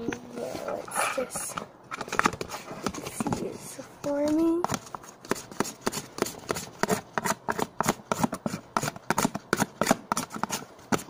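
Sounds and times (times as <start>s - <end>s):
plastic spoon scraping a tub: 0.0s - 11.0s.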